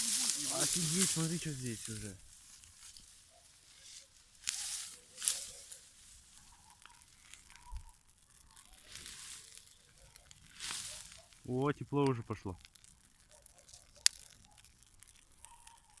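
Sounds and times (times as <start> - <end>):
burning grass crackling: 0.0 - 16.0
fire hissing: 0.0 - 16.0.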